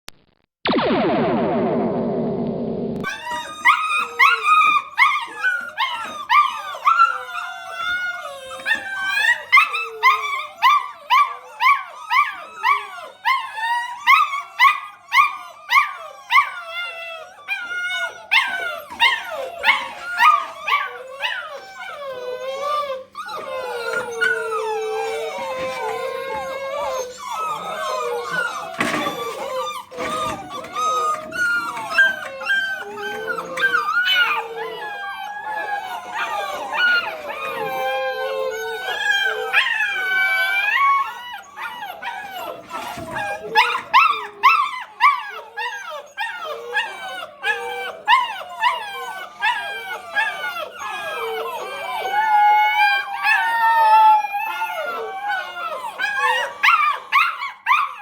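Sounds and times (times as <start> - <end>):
little dogs yelping and howling: 3.0 - 58.0.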